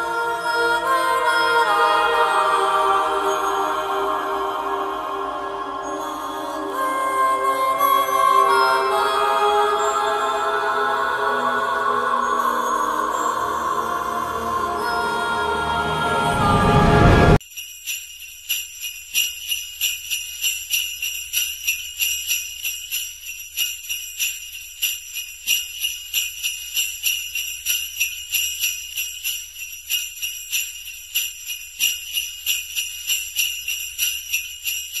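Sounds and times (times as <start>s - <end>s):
sleigh bells jingling: 0.0s - 35.0s.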